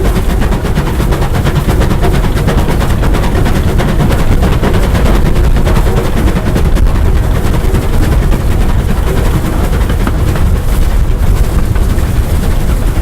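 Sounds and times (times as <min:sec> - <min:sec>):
heavy low rumble: 0:00.0 - 0:13.0
steam locomotive exhaust beats: 0:00.0 - 0:13.0
wind buffeting microphone: 0:00.0 - 0:13.0.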